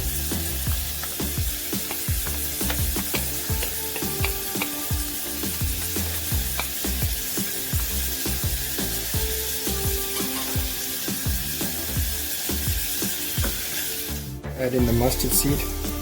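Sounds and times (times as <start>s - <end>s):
background music with beat: 0.0s - 16.0s
food sizzling in hot oil: 0.0s - 16.0s.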